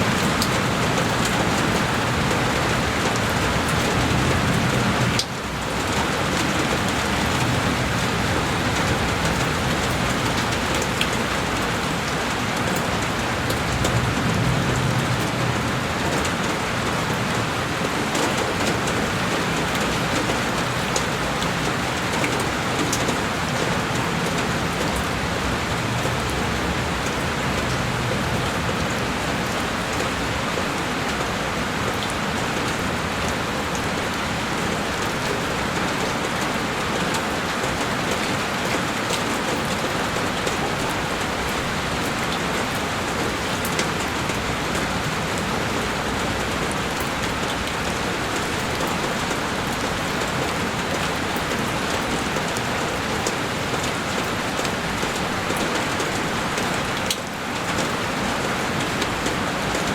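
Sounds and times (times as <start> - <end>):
heavy rain on a window: 0.0 - 59.9.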